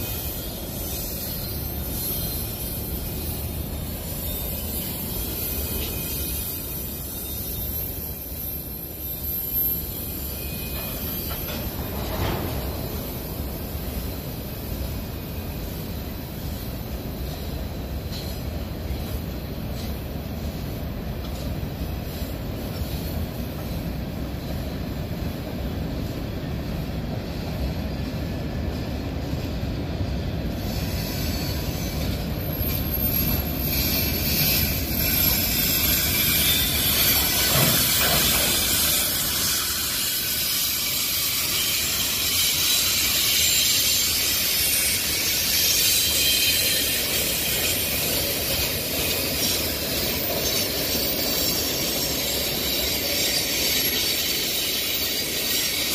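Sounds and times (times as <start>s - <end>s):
freight train rumbling past: 0.0s - 55.9s
train wheel squeal: 0.0s - 55.9s.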